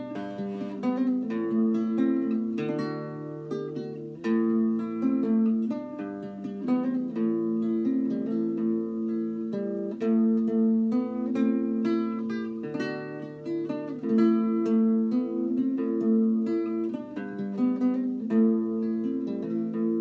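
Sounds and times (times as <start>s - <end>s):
acoustic guitar plucked notes: 0.0s - 20.0s.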